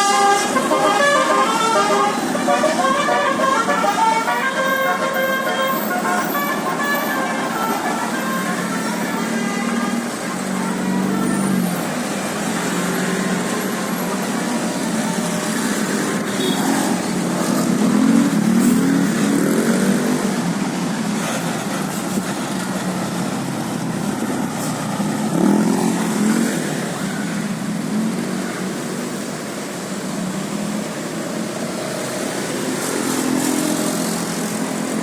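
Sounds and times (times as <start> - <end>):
traffic engines droning: 0.0 - 35.0.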